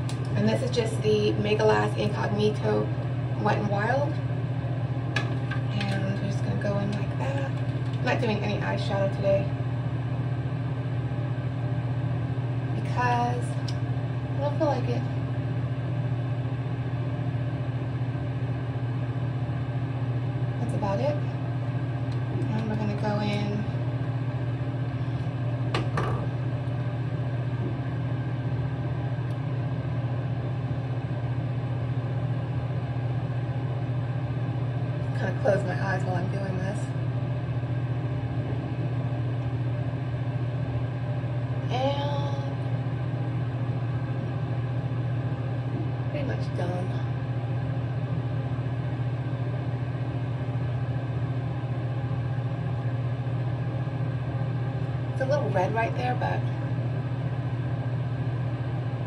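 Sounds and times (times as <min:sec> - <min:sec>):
fan humming: 0:00.0 - 0:59.0.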